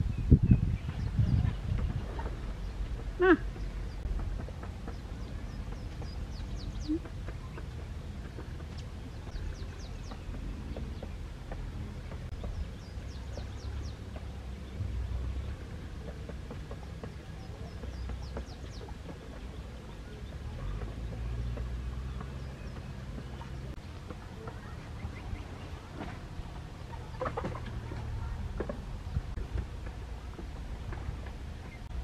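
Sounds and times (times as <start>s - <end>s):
small birds chirping: 0.0s - 32.0s
steady low rumble: 0.0s - 32.0s.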